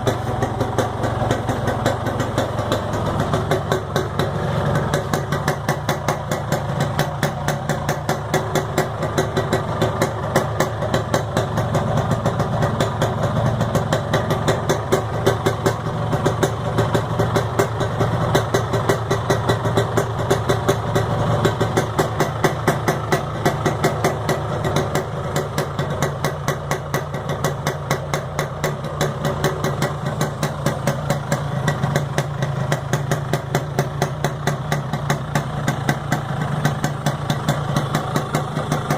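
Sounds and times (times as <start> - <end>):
two-stroke engine idling: 0.0 - 38.9.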